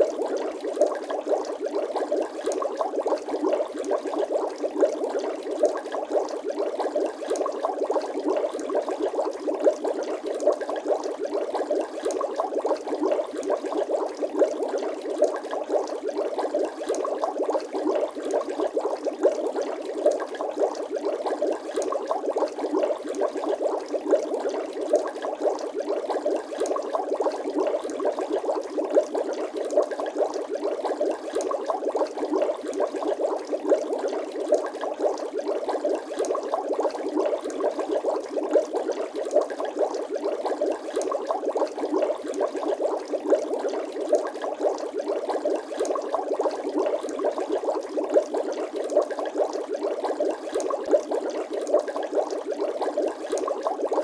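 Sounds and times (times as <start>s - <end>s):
water bubbling: 0.0s - 54.0s.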